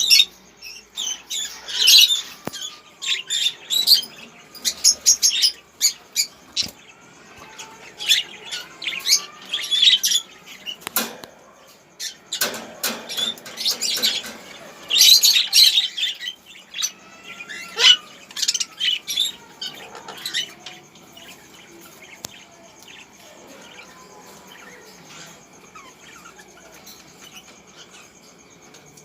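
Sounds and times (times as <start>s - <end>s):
lovebirds chirping and screeching: 0.0s - 29.0s.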